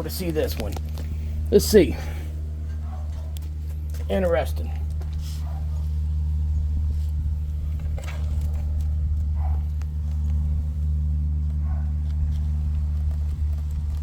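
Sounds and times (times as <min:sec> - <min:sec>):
electric fan motor humming: 0:00.0 - 0:14.0.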